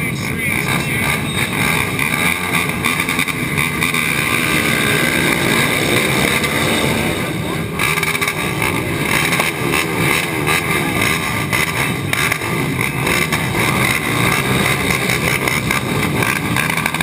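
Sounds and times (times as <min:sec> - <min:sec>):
quad engines revving: 0:00.0 - 0:17.0.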